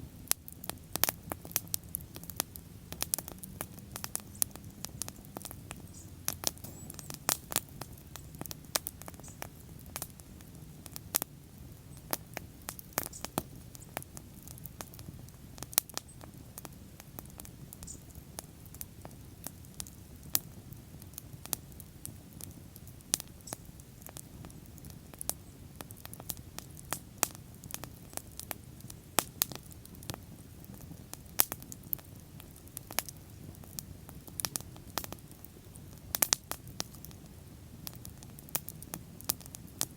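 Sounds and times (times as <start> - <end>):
rumble of flames: 0.0 - 39.9
wood fire crackling and popping: 0.1 - 39.9.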